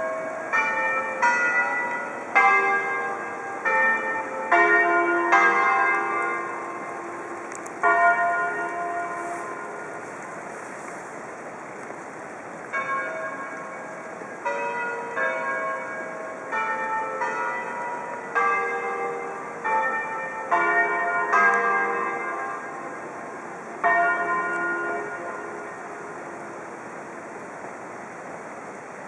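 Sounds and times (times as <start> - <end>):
church bells ringing: 0.0 - 11.0, 12.6 - 27.2.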